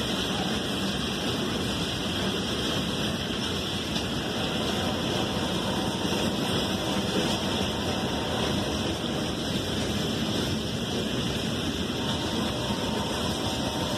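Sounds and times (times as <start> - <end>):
train wheels on rail: 0.0 - 13.9.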